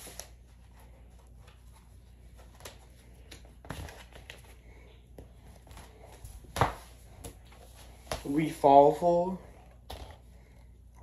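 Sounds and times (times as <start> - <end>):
cardboard album sleeves rustling: 0.0 - 8.9.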